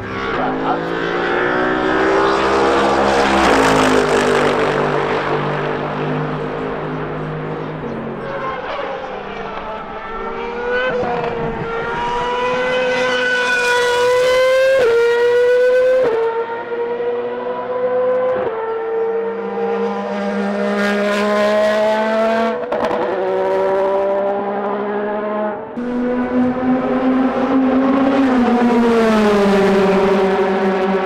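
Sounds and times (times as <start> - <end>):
racing car engine at high revs: 0.0 - 31.0.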